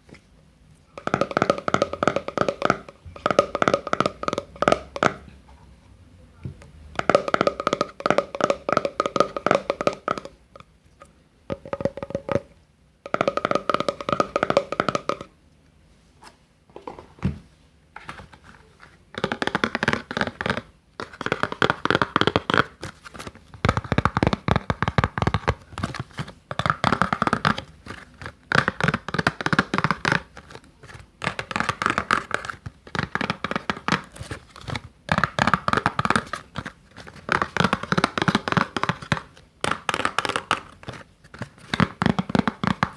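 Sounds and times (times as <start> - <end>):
crackly tapping and rubbing: 1.0 - 5.4, 7.0 - 15.4, 18.0 - 42.9.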